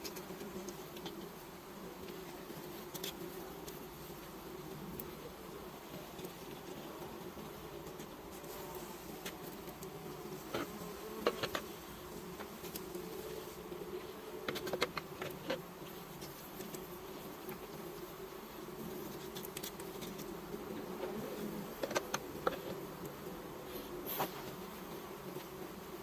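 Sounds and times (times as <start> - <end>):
bees buzzing: 0.0 - 26.0.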